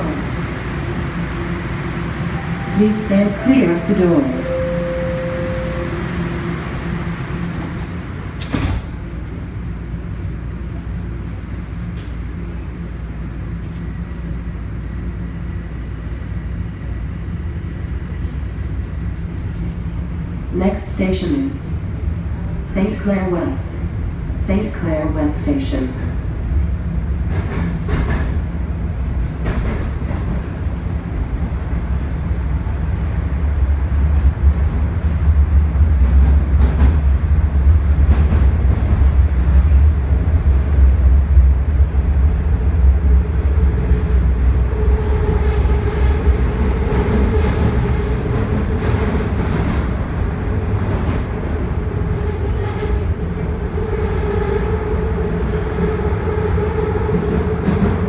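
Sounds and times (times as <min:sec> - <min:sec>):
rumble of wheels on track: 0:00.0 - 0:58.0.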